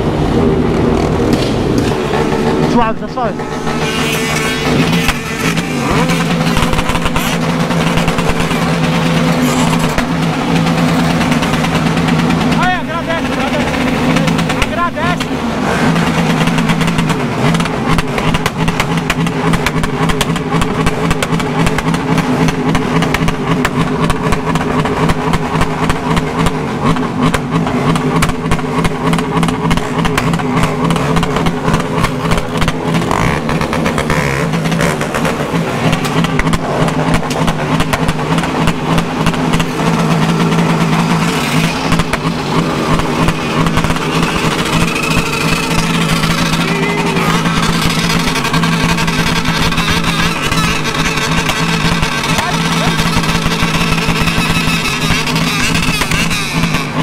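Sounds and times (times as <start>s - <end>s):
close engine running steadily: 0.0s - 57.0s
motorcycles idling and revving: 0.0s - 57.0s.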